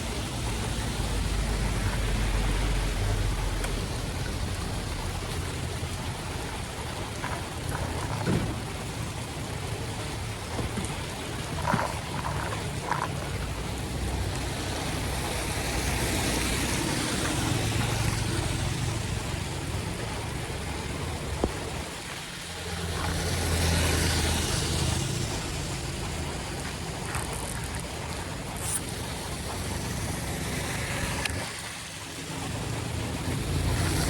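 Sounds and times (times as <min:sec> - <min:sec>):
floodwater rushing: 0:00.0 - 0:34.0
vehicles driving through water: 0:00.0 - 0:34.0.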